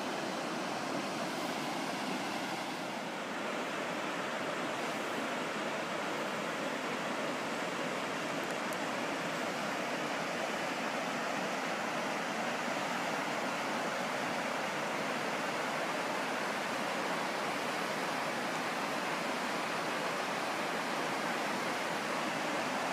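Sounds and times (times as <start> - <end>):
rushing floodwater: 0.0 - 22.9.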